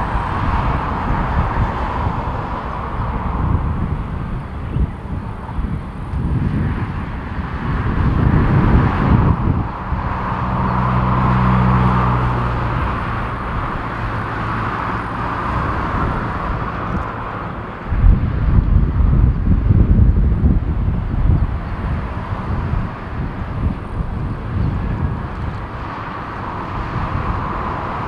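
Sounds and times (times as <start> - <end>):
jet engines running: 0.0 - 28.0
wind buffeting microphone: 0.0 - 28.0.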